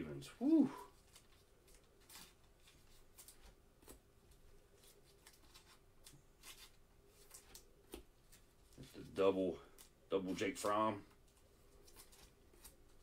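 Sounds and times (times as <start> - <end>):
plastic sleeves crinkling: 0.9 - 13.0.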